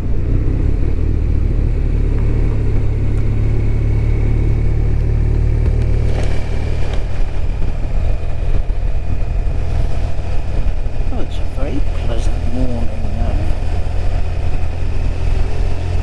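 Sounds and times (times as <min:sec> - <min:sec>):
motorcycle engine rumbling: 0:00.0 - 0:16.0
road and wind noise: 0:00.0 - 0:16.0.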